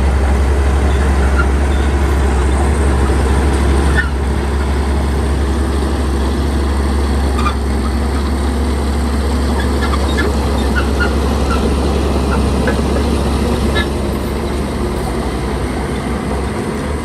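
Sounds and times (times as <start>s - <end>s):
diesel machinery engine rumble: 0.0s - 17.0s.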